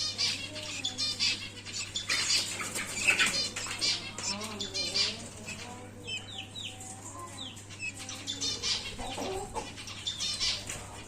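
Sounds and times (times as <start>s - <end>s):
budgerigars chirping and chattering: 0.0s - 11.0s.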